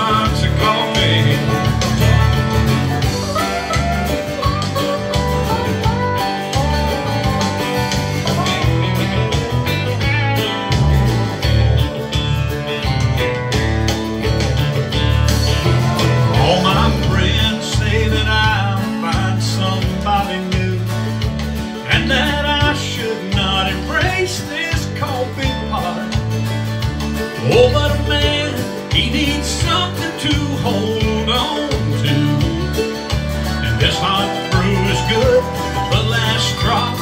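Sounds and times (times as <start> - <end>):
acoustic guitar strumming: 0.0 - 37.0
bass line: 0.0 - 37.0
sliding lead melody: 0.0 - 37.0.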